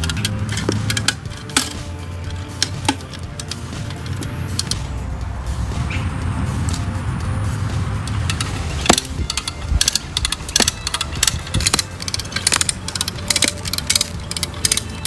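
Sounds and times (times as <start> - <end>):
irregular clattering and knocking: 0.0 - 15.0
low engine rumble: 0.0 - 15.0.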